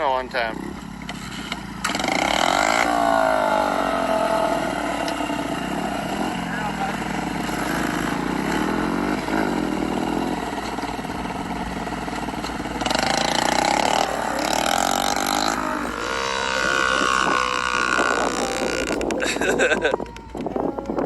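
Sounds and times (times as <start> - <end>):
small motorcycle engines revving: 0.0 - 21.0.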